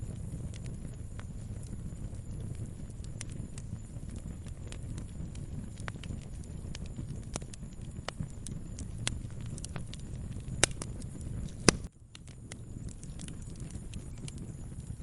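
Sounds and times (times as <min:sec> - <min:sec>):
loud pops from fire: 0:00.0 - 0:15.0
wood fire crackling: 0:00.0 - 0:15.0.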